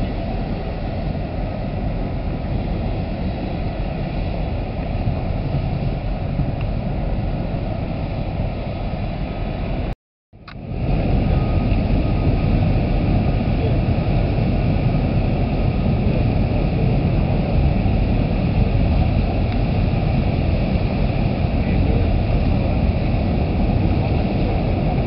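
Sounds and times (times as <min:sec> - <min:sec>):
faint steady whine: 0:00.0 - 0:25.0
ferry engines rumbling: 0:00.0 - 0:25.0.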